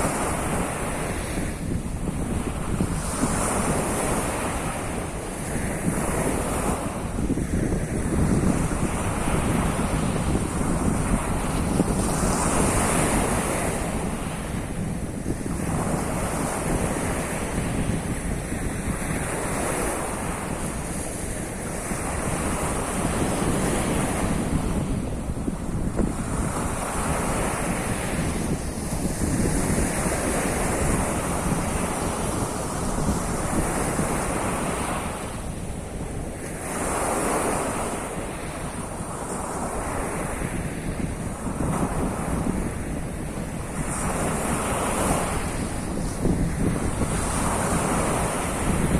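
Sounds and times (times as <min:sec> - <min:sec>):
waves breaking on shore: 0:00.0 - 0:48.9
wind buffeting microphone: 0:00.0 - 0:48.9.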